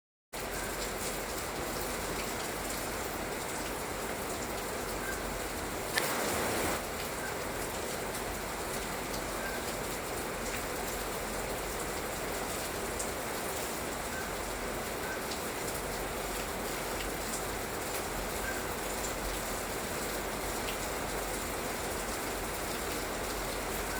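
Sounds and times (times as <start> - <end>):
light rain falling: 0.4 - 23.9.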